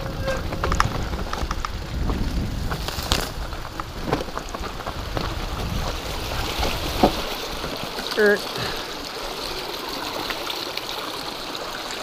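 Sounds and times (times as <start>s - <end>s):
bike clicking and rattling on stones: 0.0s - 10.4s
wind and tyres rumbling: 0.0s - 12.0s.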